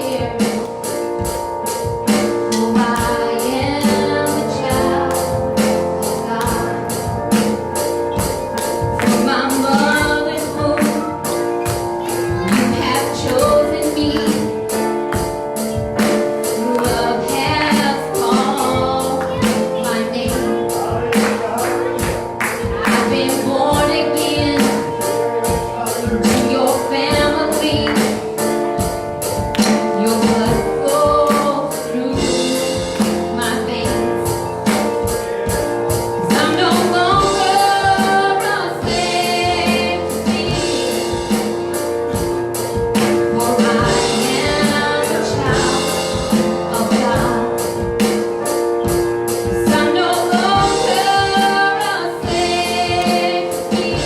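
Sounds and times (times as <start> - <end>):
gospel singers with band: 0.0 - 54.0.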